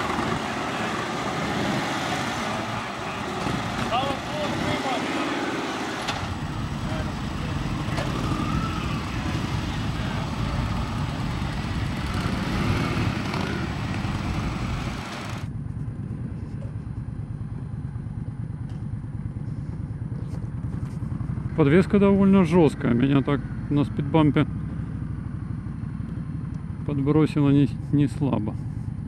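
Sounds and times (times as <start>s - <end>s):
motorcycle engine at low speed: 0.0s - 29.0s
motorcycle engines idling: 0.0s - 29.0s.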